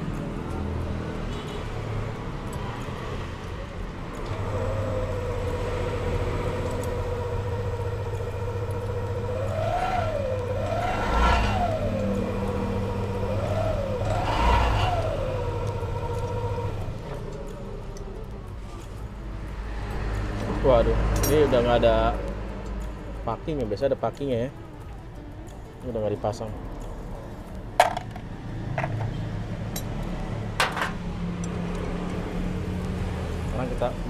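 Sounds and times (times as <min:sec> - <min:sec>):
engine running and revving: 0:00.0 - 0:24.0, 0:24.8 - 0:34.0.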